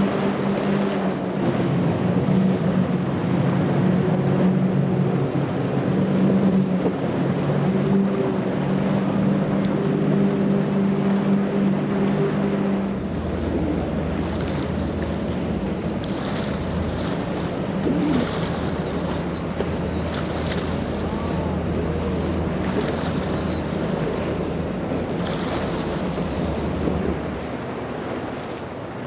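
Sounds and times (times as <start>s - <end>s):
choppy sea: 0.0s - 29.0s
jet ski engine drone: 0.0s - 29.0s
outboard motors steady tone: 0.0s - 29.0s.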